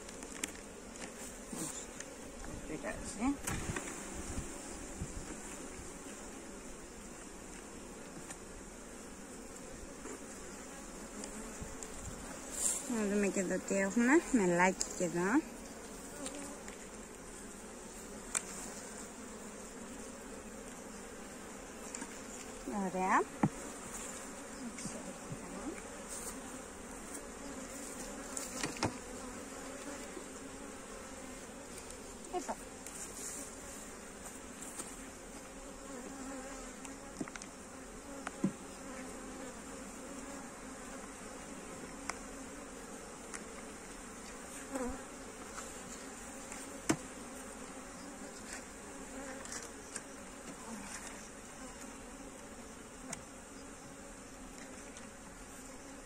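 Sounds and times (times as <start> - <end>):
bees humming: 0.0 - 56.0.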